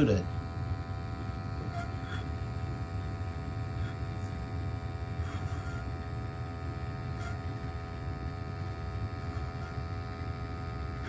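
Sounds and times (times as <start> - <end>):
faint hum: 0.0 - 11.0
gas burner rushing: 0.0 - 11.0.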